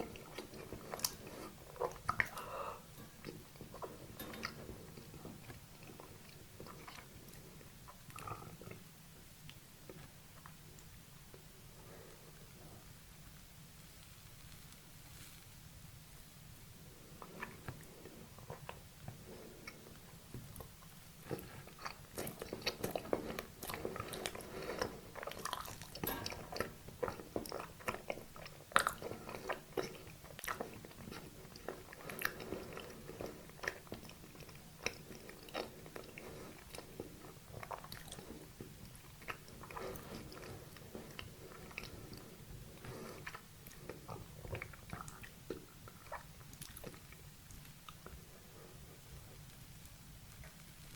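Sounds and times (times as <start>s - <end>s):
close chewing and crunching: 0.0s - 8.9s, 17.2s - 50.9s.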